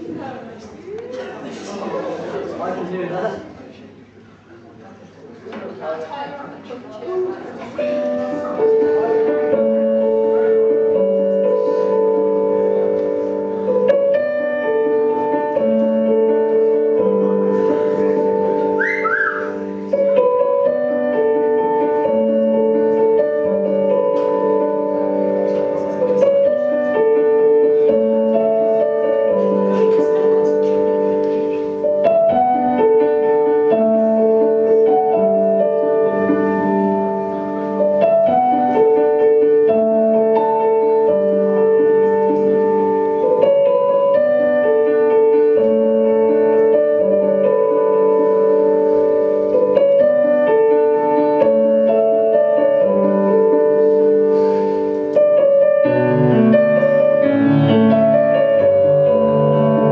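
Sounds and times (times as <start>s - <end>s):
slow piano music: 7.1s - 59.9s.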